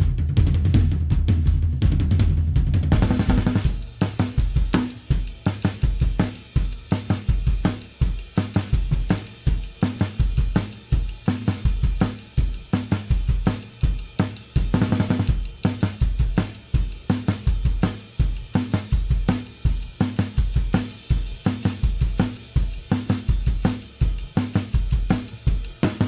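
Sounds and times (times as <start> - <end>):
music with driving drum beat: 0.0 - 26.0.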